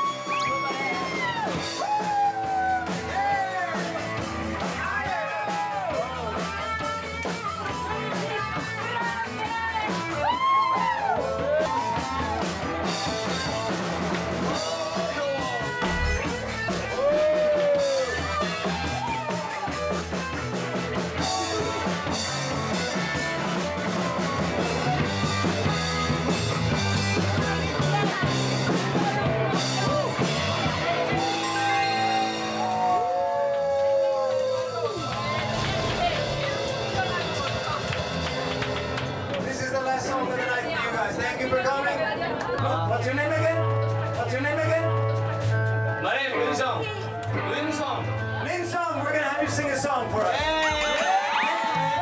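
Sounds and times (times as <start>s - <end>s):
rock and roll band playing: 0.0s - 41.6s, 42.9s - 52.0s.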